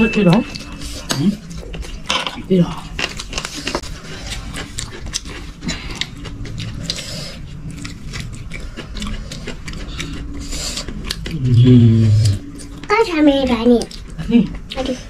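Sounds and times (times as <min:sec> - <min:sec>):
chewing: 0:00.4 - 0:15.0
food crackling being bitten: 0:00.5 - 0:12.9.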